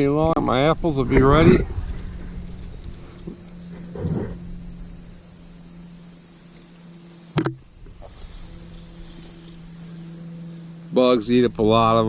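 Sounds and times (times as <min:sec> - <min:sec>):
insects trilling: 0:00.0 - 0:12.0
low steady hum: 0:00.0 - 0:12.0.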